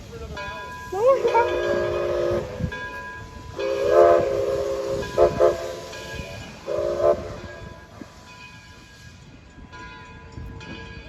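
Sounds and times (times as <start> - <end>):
train running rumble: 0.0 - 11.0
steam locomotive chime whistle: 0.3 - 11.0.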